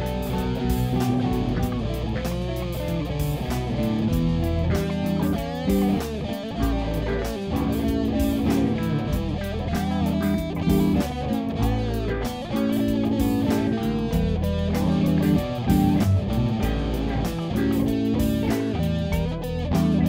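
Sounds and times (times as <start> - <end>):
electric guitar instrumental music: 0.0 - 20.0.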